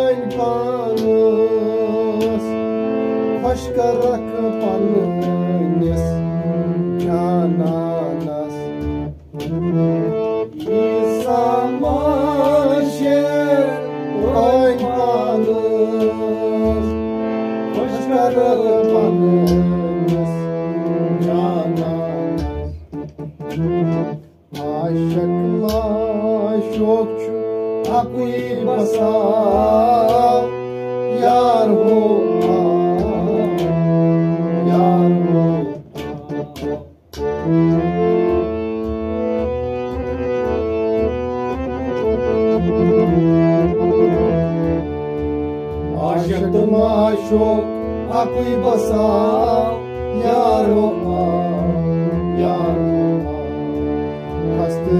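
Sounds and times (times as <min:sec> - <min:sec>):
harmonium melody: 0:00.0 - 0:54.9.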